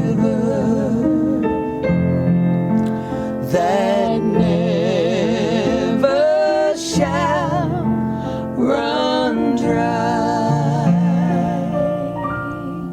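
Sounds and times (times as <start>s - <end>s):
person singing with vibrato: 0.0s - 2.4s, 3.0s - 12.9s
keyboard accompaniment: 0.0s - 12.9s.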